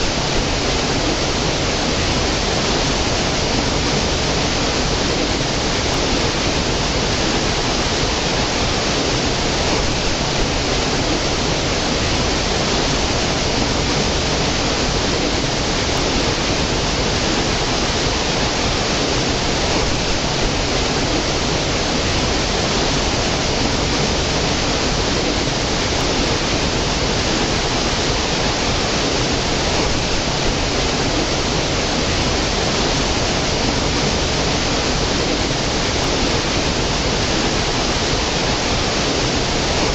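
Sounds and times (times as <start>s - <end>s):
stream cascading over rocks: 0.0s - 39.9s.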